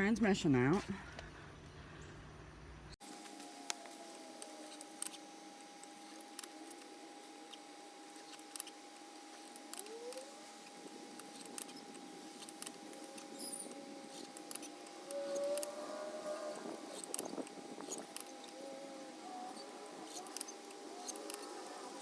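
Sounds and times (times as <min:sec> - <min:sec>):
short rising squeaks: 0:03.4 - 0:22.0.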